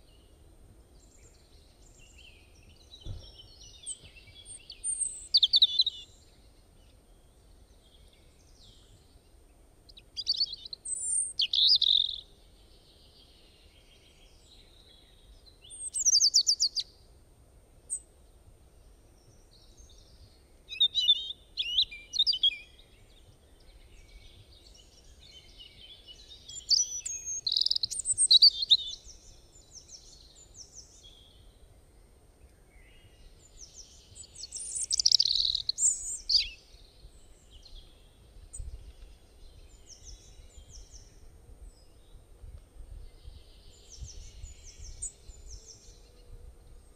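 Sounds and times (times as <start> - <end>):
birds chirping and singing: 1.0 - 6.4, 10.2 - 16.8, 19.2 - 31.6, 32.7 - 42.2, 43.0 - 46.9.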